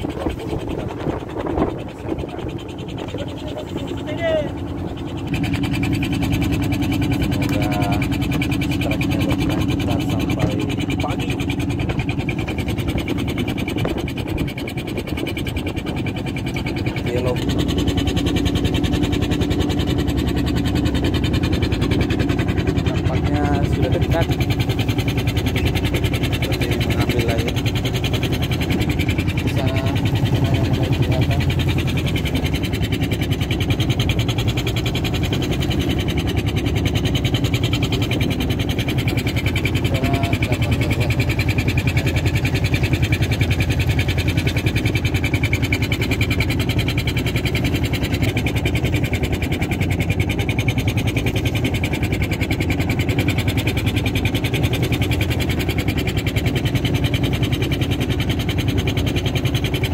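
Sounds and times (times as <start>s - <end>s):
boat engine running steadily: 0.0s - 59.9s.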